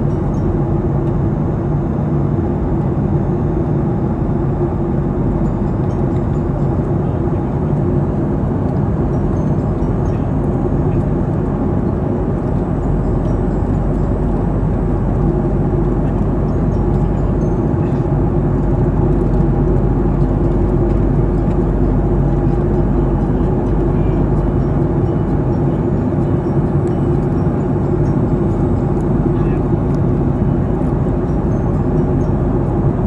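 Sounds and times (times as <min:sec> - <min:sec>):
airliner cabin engine drone: 0:00.0 - 0:33.0.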